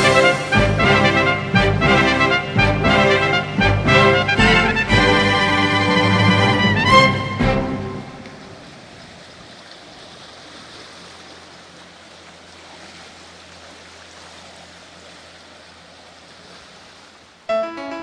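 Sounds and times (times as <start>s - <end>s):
wake washing against landing stage: 0.0s - 15.5s
boat engine hum: 0.0s - 18.0s
river water lapping: 0.0s - 18.0s.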